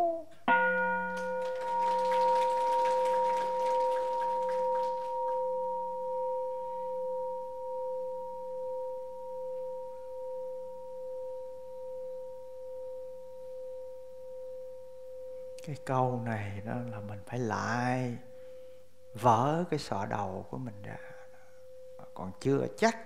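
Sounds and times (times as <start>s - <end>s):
bowl bell ringing: 0.4s - 15.6s, 16.3s - 23.0s.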